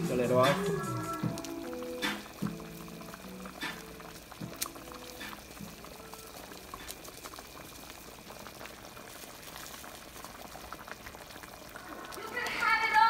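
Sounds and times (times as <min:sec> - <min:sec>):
stew bubbling in a pan: 0:00.0 - 0:13.0.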